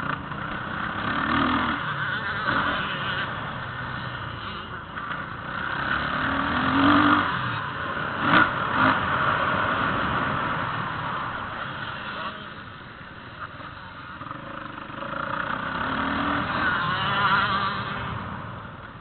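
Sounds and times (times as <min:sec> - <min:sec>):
motorbike engine revving: 0:00.0 - 0:18.8.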